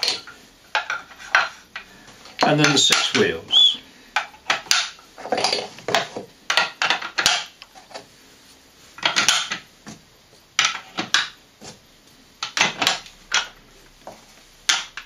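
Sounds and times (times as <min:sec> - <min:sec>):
wooden toy wheels clacking: 0:00.0 - 0:08.1, 0:09.0 - 0:09.7, 0:10.6 - 0:11.4, 0:12.4 - 0:15.0.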